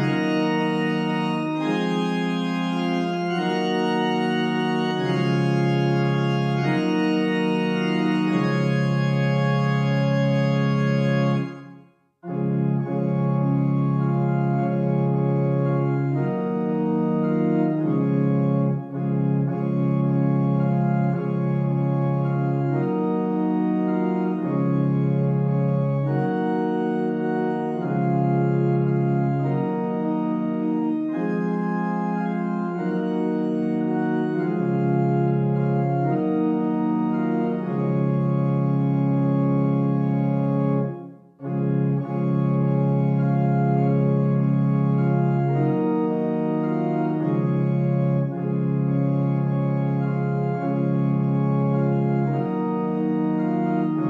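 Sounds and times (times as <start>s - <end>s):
pipe organ playing hymn chords: 0.0s - 54.0s.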